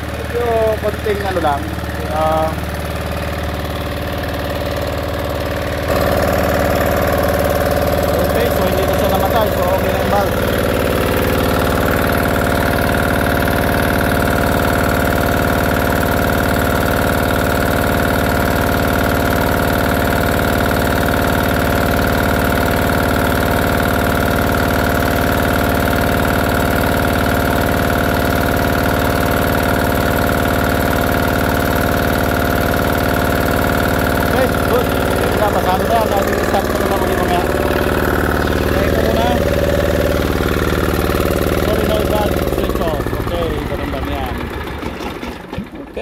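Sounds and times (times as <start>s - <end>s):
diesel engine running steadily: 0.0s - 46.0s.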